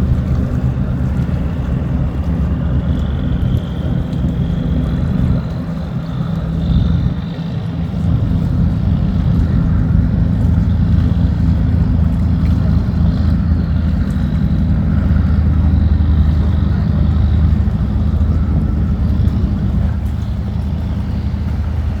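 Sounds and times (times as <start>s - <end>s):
diesel engine hum: 0.0s - 22.0s.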